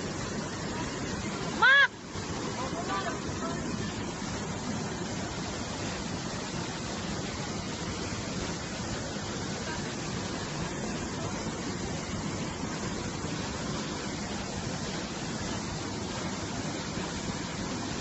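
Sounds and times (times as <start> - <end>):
floodwater rushing over rocks: 0.0 - 18.0.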